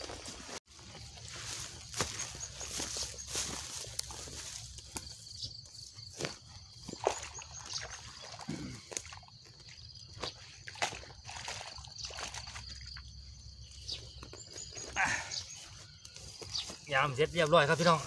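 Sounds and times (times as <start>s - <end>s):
water sloshing and trickling: 0.0s - 18.0s.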